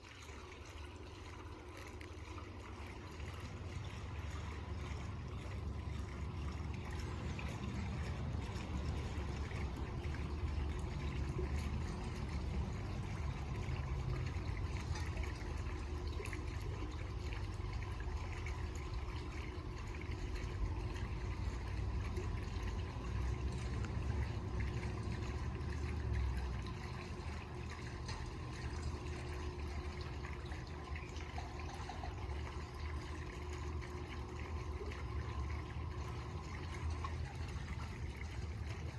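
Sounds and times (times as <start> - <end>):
roller screen motor rumbling: 0.6 - 38.9.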